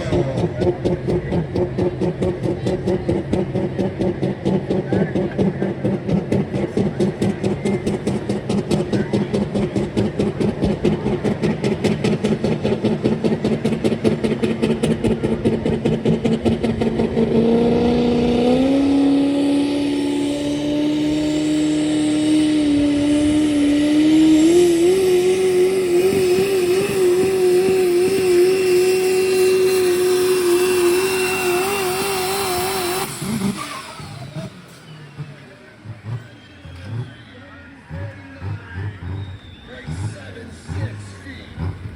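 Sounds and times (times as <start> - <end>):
diesel truck engine revving: 0.0 - 41.9.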